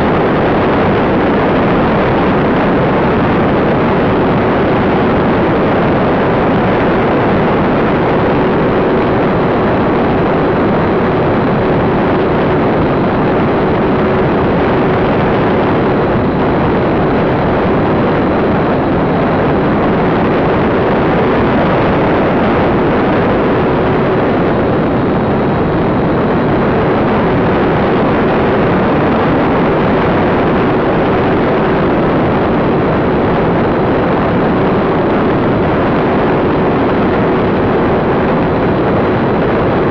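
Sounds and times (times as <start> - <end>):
airflow rushing across microphone: 0.0 - 39.9.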